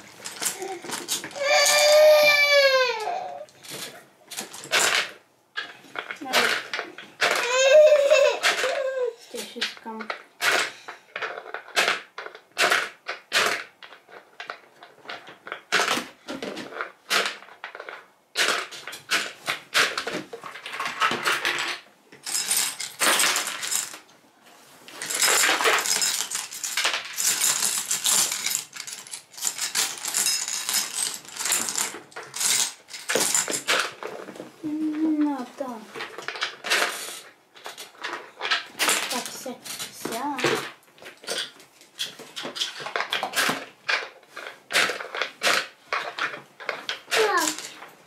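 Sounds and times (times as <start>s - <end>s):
pebbles clattering into plastic bottle: 0.0s - 24.1s, 24.9s - 48.0s.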